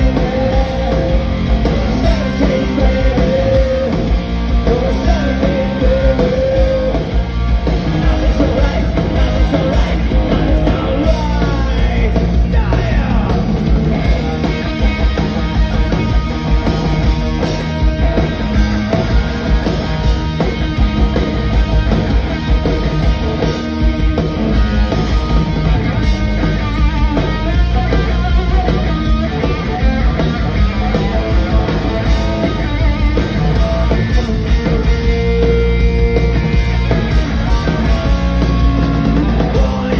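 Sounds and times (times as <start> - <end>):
bass guitar: 0.0 - 39.9
drums: 0.0 - 39.9
electric guitars: 0.0 - 39.9.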